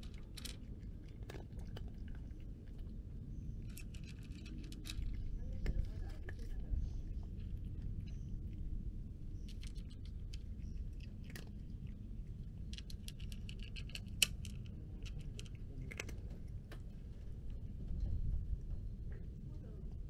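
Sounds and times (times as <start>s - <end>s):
cat crunching dry kibble: 0.0s - 18.7s
low background rumble: 0.0s - 20.0s.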